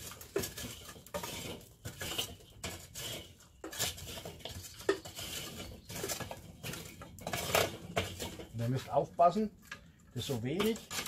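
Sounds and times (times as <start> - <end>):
coals scraping and clinking: 0.0 - 11.0.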